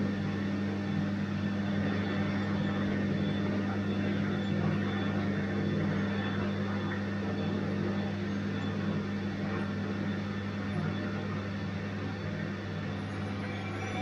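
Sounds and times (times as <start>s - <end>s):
washing machine running: 0.0s - 14.0s.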